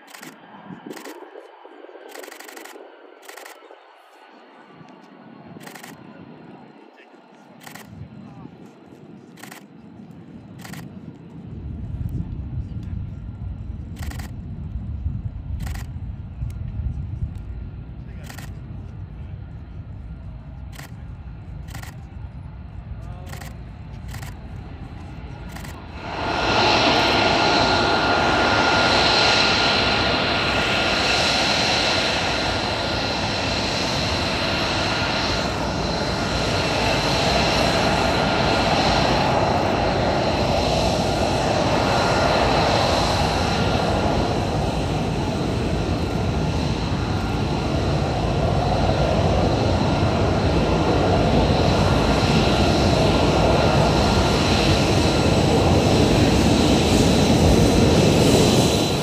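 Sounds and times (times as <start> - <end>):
jet engine rush with high whine: 0.0 - 59.0.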